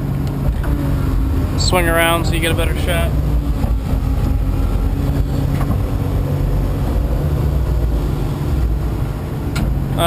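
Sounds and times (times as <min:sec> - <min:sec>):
excavator diesel engine rumble: 0:00.0 - 0:10.0.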